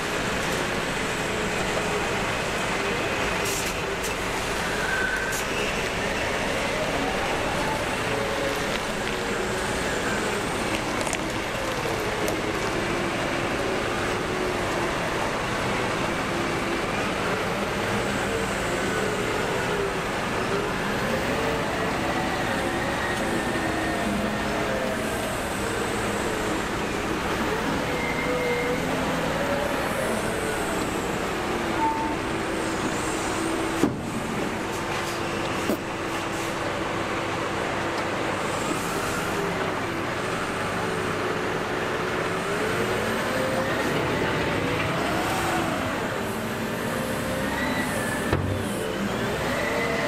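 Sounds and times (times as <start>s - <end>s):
wheel loader diesel engine: 0.0s - 50.0s.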